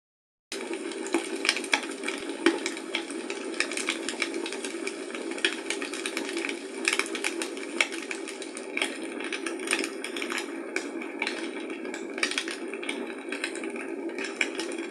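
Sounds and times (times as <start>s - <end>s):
wood fire crackling: 0.6s - 14.9s.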